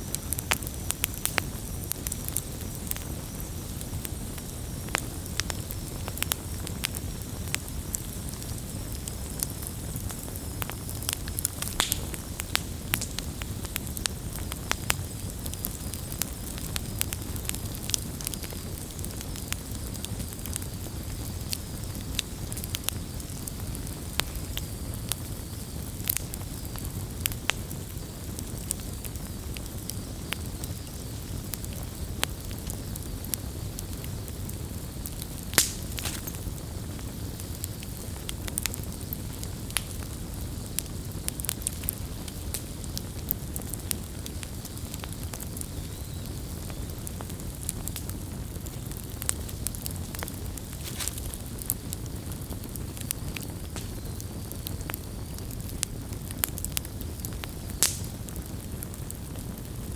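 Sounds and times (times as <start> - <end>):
bonfire low rumble: 0.0 - 59.9
burning wood crackling and popping: 0.0 - 59.9.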